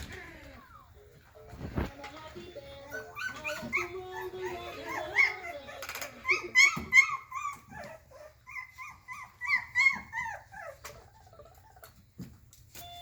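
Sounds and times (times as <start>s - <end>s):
puppies whining and yipping: 0.0s - 1.2s, 2.6s - 12.4s.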